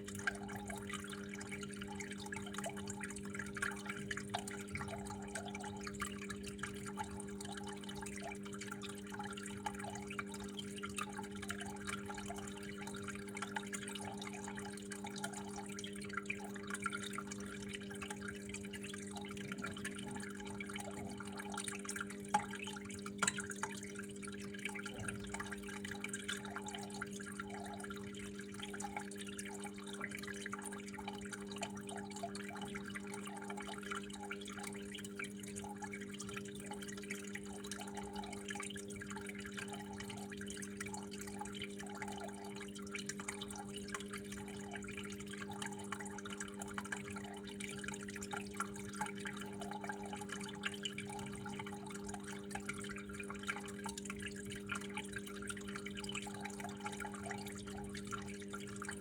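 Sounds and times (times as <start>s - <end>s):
water flowing and dripping: 0.0s - 59.0s.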